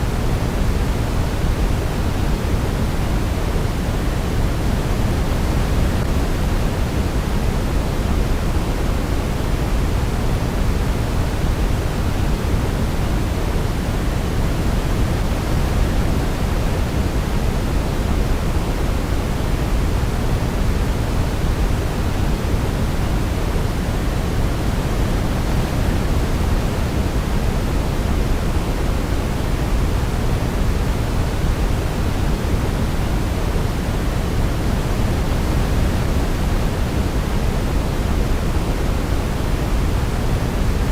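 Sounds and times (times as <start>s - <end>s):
white noise: 0.0s - 40.9s.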